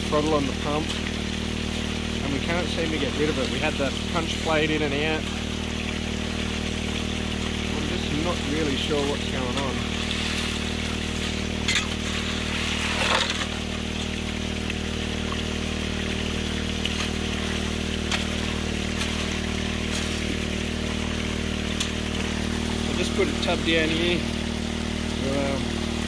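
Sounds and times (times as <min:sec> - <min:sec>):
pump engine running: 0:00.0 - 0:26.0
water rushing through sluice: 0:00.0 - 0:26.0.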